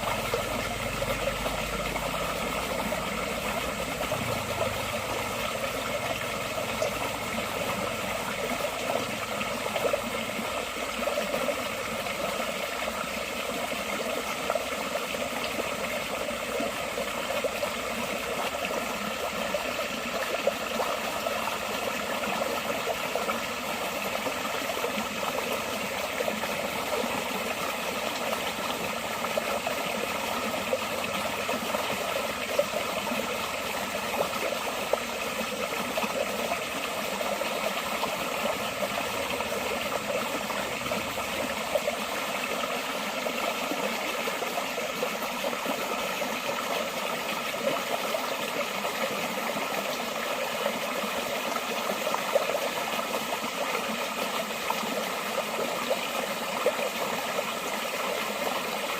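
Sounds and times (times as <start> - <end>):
stream water flowing: 0.0 - 58.9.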